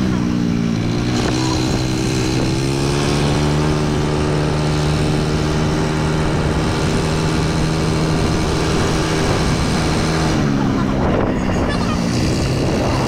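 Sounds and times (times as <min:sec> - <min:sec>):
rushing noise of travel: 0:00.0 - 0:13.0
vehicle engine running: 0:00.0 - 0:13.0.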